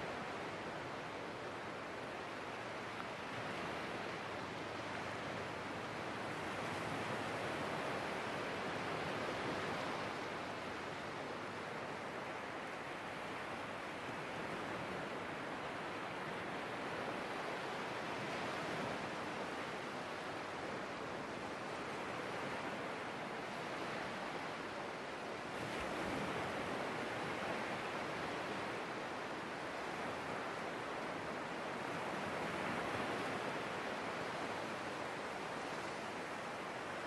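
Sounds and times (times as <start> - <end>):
sea surf washing ashore: 0.0 - 37.0.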